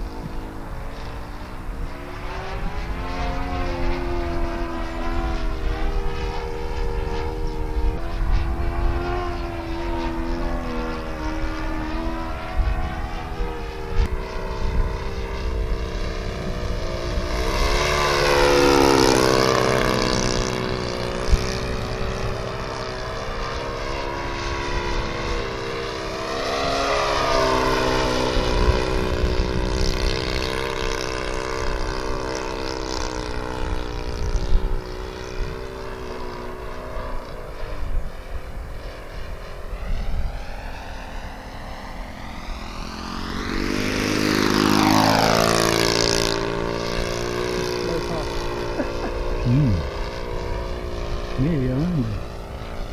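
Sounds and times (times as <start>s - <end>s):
model airplane engine drone: 0.0s - 52.9s.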